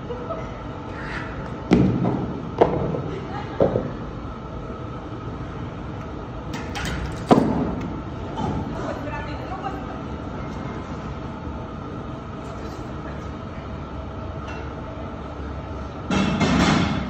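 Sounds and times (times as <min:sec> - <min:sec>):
gym background noise: 0:00.0 - 0:17.0.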